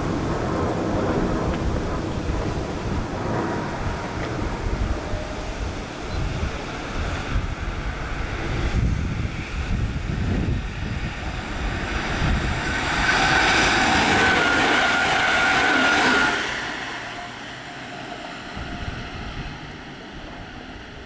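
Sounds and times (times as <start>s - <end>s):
passenger train passing at speed: 0.0s - 21.0s
wind buffeting microphone: 0.0s - 21.0s.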